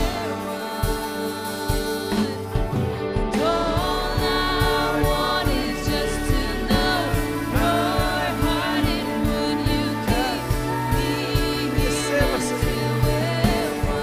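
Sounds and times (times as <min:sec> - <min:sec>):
instrumental accompaniment with beat: 0:00.0 - 0:14.0
people singing worship song: 0:00.0 - 0:14.0.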